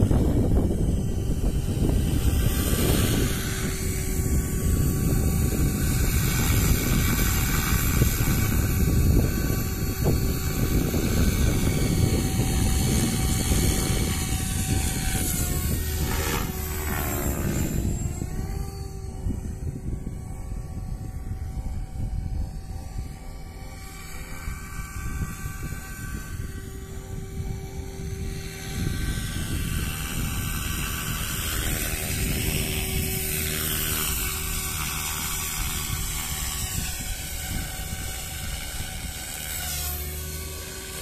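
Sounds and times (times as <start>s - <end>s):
rc helicopter motor whine: 0.0s - 41.0s
wind noise on microphone: 0.0s - 41.0s.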